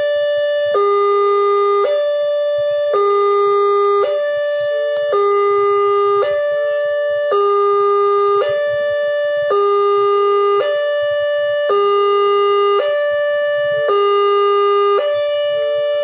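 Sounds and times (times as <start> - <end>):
level crossing alarm: 0.0 - 16.0.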